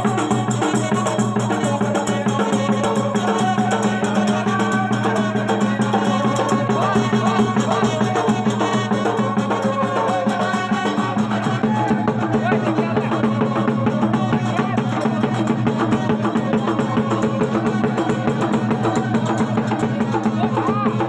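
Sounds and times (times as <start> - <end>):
drum beaten in fast rhythm: 0.0 - 21.0.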